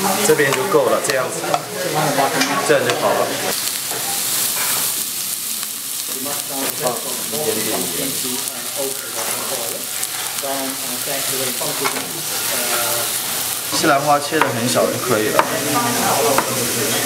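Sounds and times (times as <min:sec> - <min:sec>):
mushrooms sizzling in a frying pan: 0:00.0 - 0:17.0.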